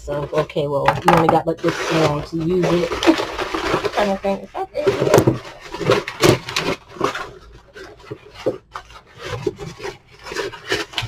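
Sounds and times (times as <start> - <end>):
packing paper rustling: 0.1 - 11.0.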